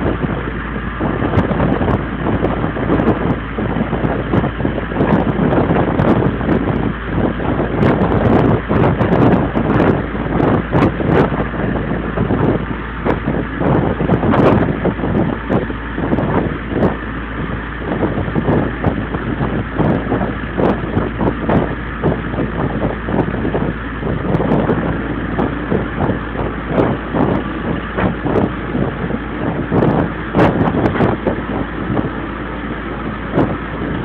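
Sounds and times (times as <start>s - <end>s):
boat engine running: 0.0s - 34.0s
wind buffeting microphone: 0.0s - 34.0s.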